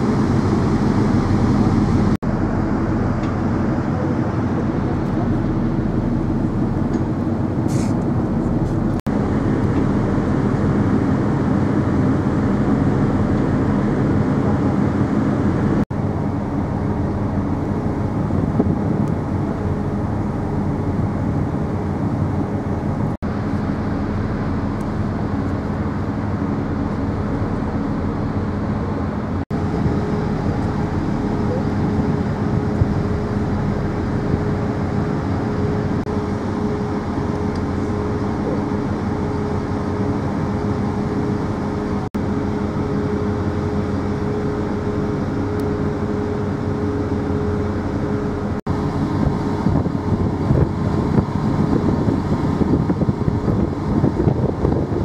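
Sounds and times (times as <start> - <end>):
ferry engine rumbling: 0.0 - 55.0.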